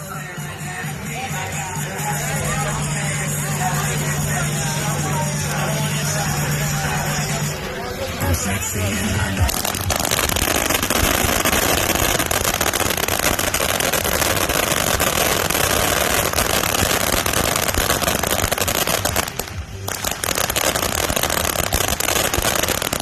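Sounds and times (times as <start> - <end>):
fireworks crackling and popping: 1.0 - 23.0.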